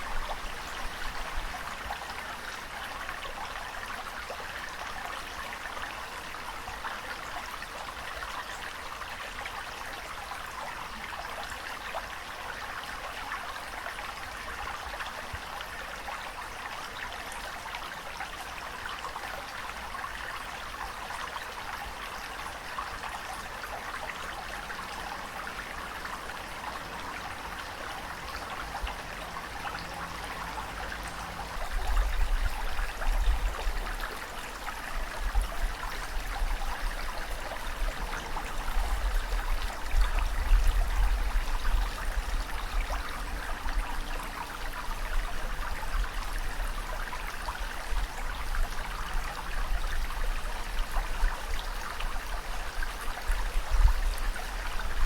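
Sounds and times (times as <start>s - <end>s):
rushing trickling water: 0.0s - 55.0s.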